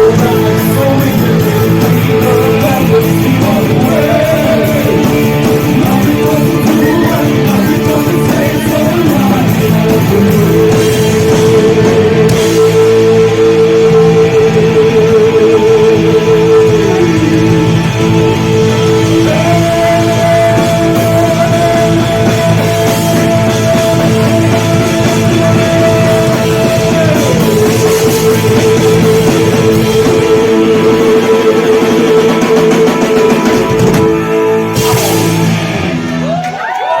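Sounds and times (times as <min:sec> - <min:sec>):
rock band playing live: 0:00.0 - 0:37.0.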